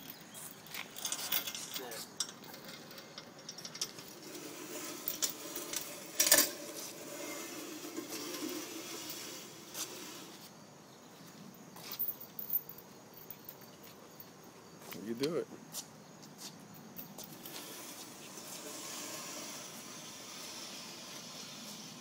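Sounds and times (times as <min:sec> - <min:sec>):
metal chains dragged on asphalt: 0:00.0 - 0:10.7, 0:11.7 - 0:15.2, 0:16.4 - 0:22.0.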